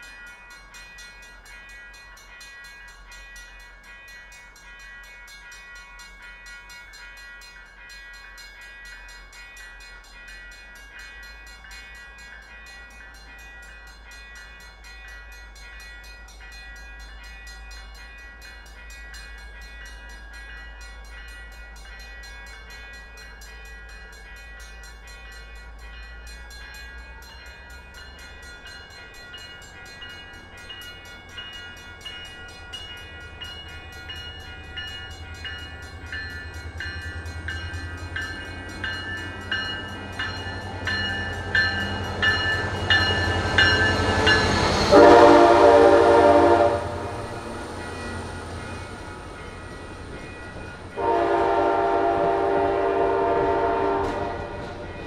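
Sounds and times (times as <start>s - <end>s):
diesel locomotive engine rumble: 10.1s - 55.0s.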